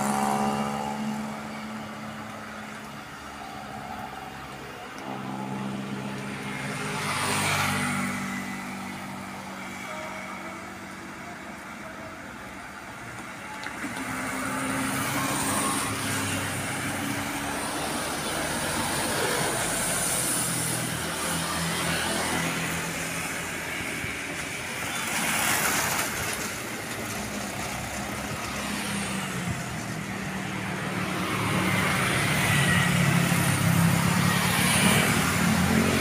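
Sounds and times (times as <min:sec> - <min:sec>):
tyres hissing on wet road: 0:00.0 - 0:36.0
vehicle engines running: 0:00.0 - 0:36.0.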